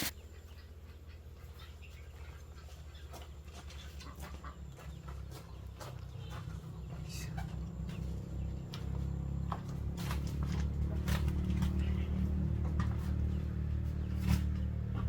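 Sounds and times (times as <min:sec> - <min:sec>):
chickens clucking: 0:00.0 - 0:15.0
low steady rumble: 0:00.0 - 0:15.0.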